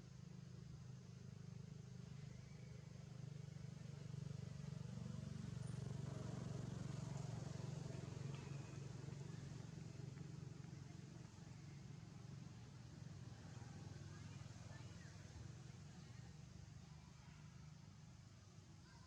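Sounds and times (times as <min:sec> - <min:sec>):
faint low engine hum: 0:00.0 - 0:19.0.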